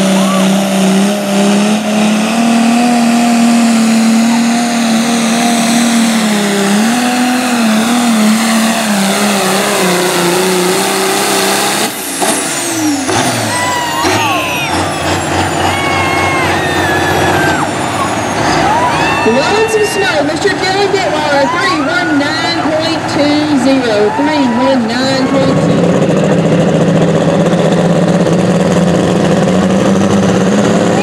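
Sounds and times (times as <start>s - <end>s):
diesel engine running under load: 0.0s - 31.0s
turbos winding down whistling: 0.0s - 31.0s.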